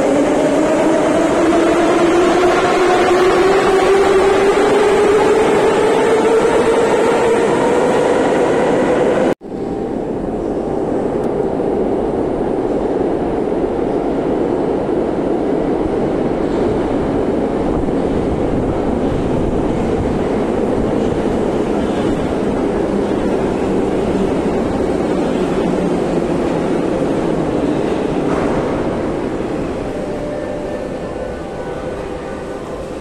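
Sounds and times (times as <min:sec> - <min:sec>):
train arriving rumble: 0:00.0 - 0:33.0.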